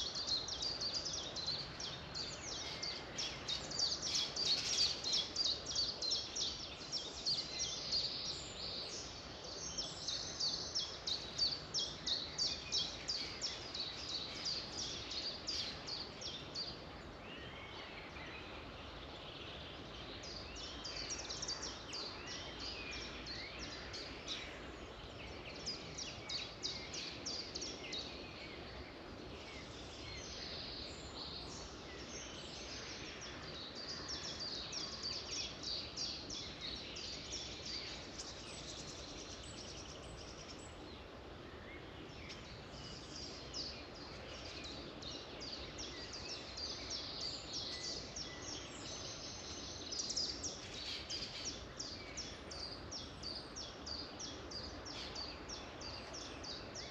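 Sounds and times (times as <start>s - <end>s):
songbirds chirping: 0.0s - 56.9s
steady background hiss: 0.0s - 56.9s.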